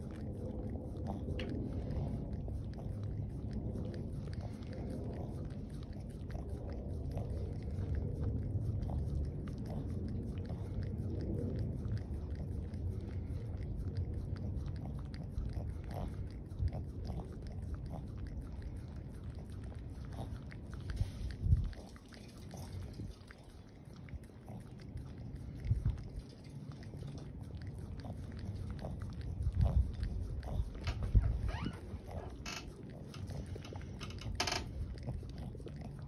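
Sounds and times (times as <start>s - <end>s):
dog licking wet lapping: 0.0s - 36.0s.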